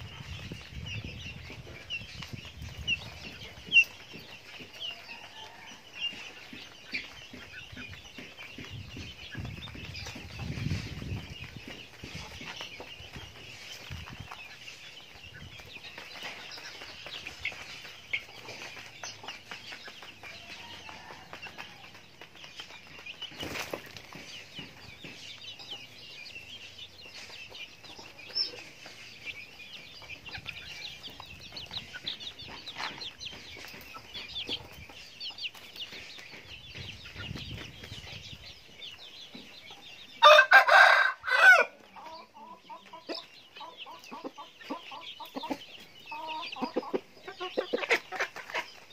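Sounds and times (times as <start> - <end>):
chickens clucking: 0.0 - 48.9
chicks peeping: 0.0 - 48.9.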